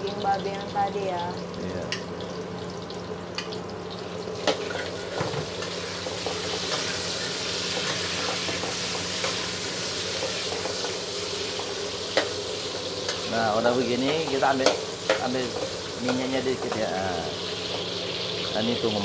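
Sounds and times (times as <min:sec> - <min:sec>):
food sizzling in a wok: 0:00.0 - 0:19.0.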